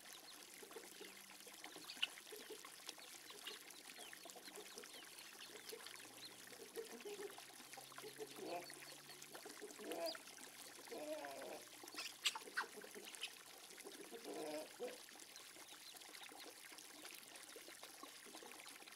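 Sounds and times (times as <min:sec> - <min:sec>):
hose water trickling into pond: 0:00.0 - 0:18.9.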